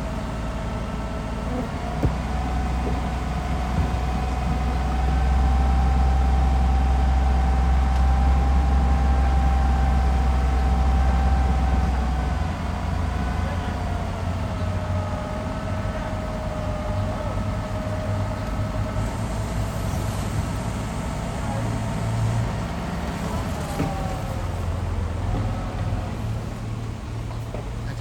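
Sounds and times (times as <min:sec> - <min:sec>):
deep diesel engine rumble: 0:00.0 - 0:28.0.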